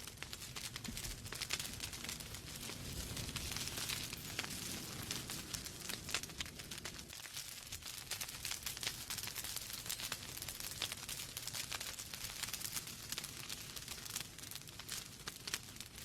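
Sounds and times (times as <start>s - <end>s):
flames rumbling: 0.0s - 16.0s
logs crackling and popping: 0.0s - 16.0s.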